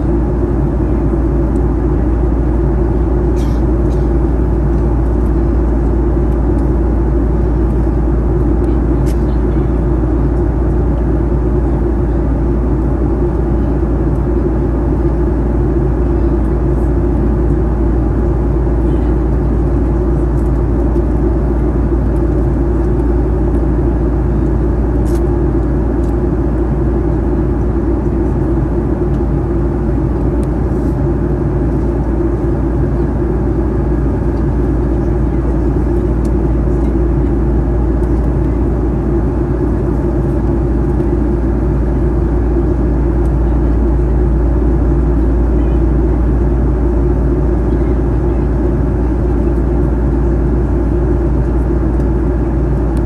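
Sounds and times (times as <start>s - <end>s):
jet engine drone in cabin: 0.0s - 53.0s.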